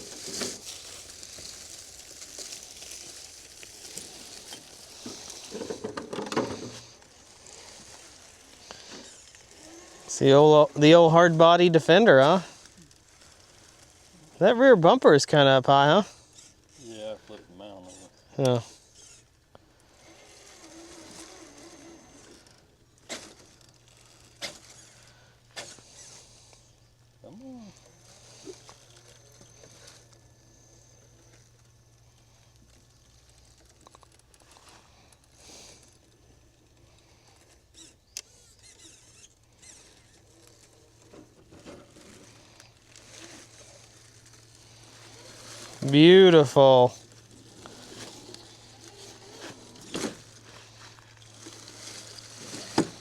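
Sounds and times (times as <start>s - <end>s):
toy car motor whine: 0.0s - 53.0s.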